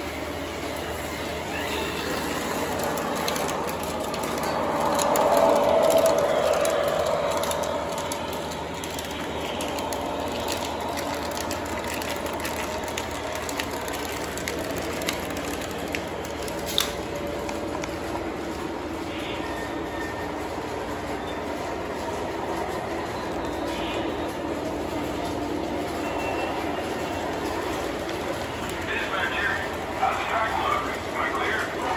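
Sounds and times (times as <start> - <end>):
model trains rolling on track: 0.0 - 31.9.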